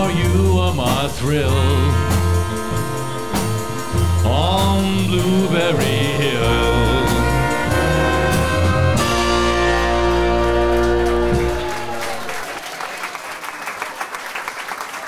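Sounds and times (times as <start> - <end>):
big band with saxophones: 0.0 - 12.7.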